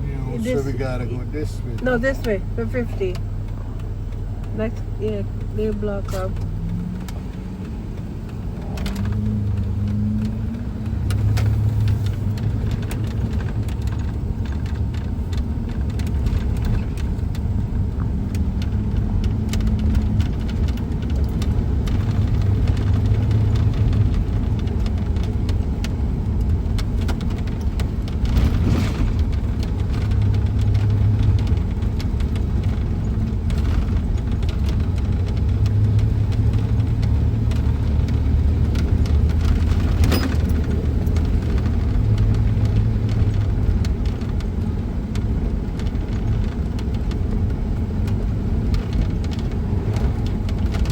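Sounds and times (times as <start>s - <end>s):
engine and road rumble: 0.0s - 50.9s.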